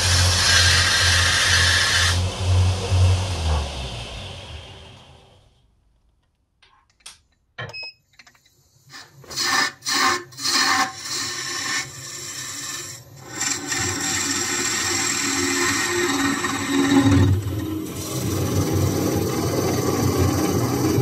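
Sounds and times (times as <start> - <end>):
lathe tool cutting wood: 0.0 - 5.3, 9.4 - 21.0.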